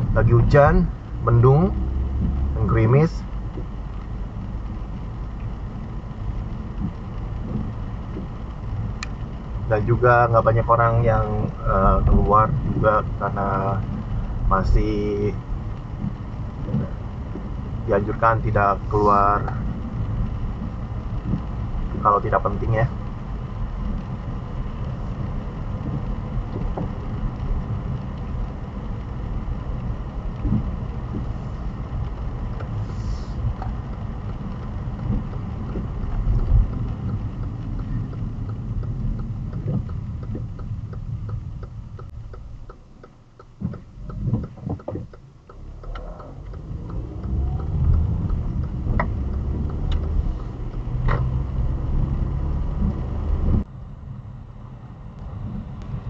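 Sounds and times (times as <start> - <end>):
light ticks: 0.0 - 53.6, 55.1 - 56.0
tyre and road noise: 0.0 - 56.0.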